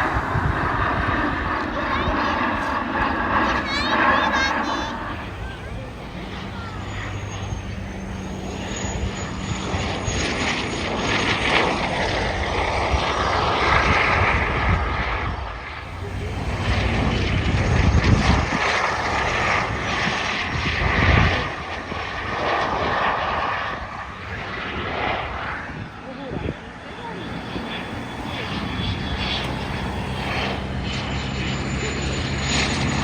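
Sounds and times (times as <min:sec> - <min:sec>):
airplane engine flying past: 0:00.0 - 0:33.0.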